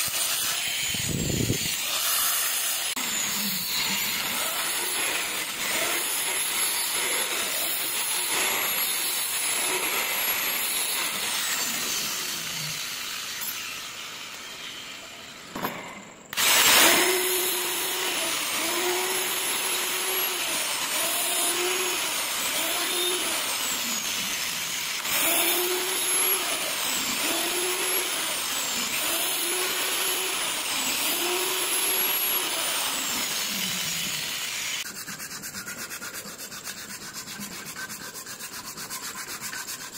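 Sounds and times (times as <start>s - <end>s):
angle grinder grinding metal: 0.0s - 39.9s.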